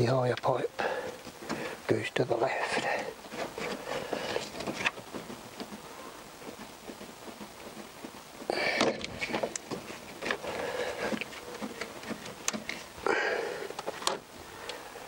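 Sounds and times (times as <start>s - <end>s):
hands rubbing rubber hoses: 2.5s - 14.8s.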